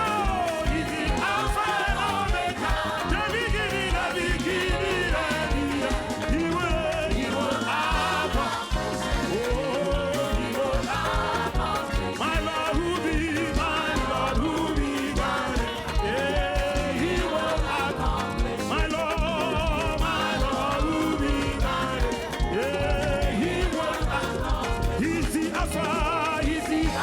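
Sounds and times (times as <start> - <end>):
people singing: 0.0 - 27.0
upbeat gospel band: 0.0 - 27.0.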